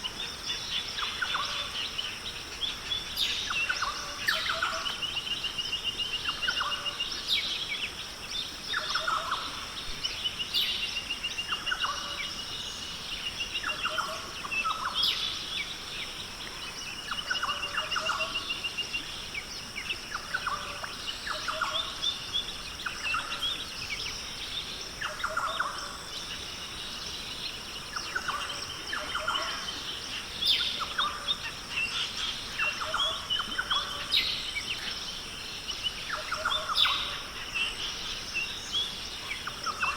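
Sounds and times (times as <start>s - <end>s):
forest birds calling and trilling: 0.0s - 39.9s.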